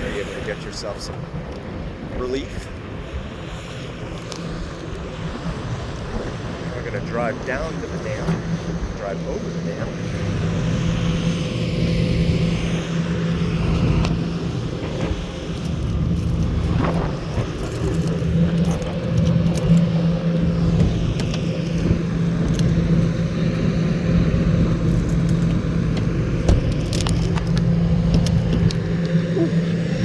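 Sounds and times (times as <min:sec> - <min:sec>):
vehicle engine humming: 0:02.8 - 0:30.0.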